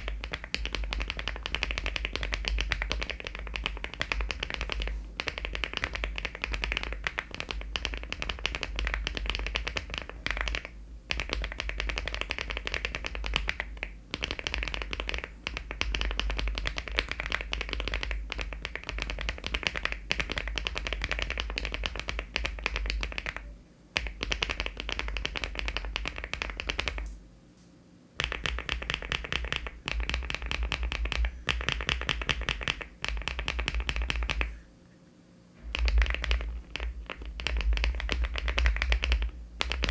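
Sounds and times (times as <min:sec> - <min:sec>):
mechanical keyboard typing: 0:00.0 - 0:27.0, 0:28.2 - 0:34.5, 0:35.7 - 0:39.9.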